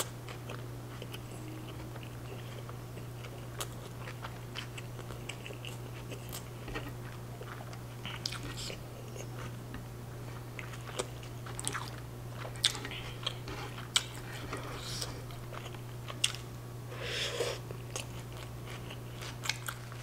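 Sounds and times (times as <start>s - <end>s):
chewing with small crunches: 0.0s - 16.5s, 17.6s - 20.0s
steady low hum: 0.0s - 20.0s.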